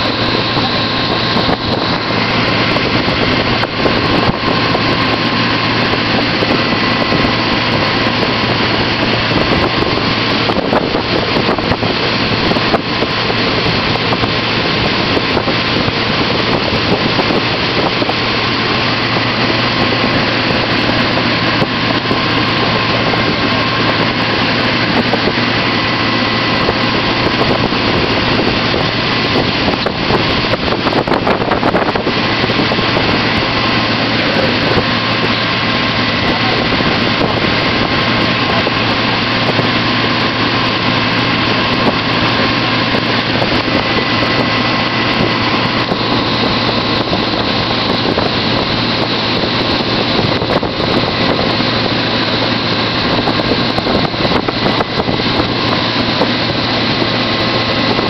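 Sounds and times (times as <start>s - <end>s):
motorboat engine running: 0.0s - 58.0s
water rushing: 0.0s - 58.0s
wind on microphone: 0.0s - 58.0s.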